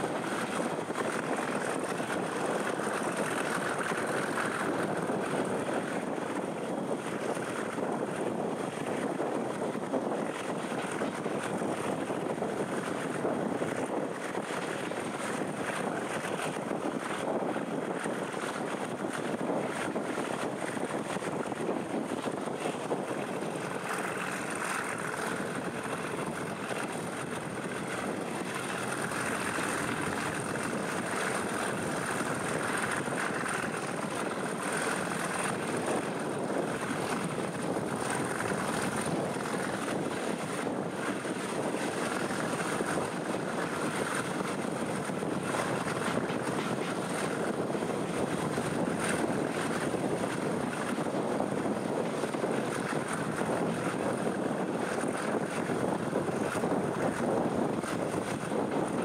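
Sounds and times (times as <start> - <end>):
diesel locomotive engine: 0.0 - 52.0
wind rush: 0.0 - 59.0.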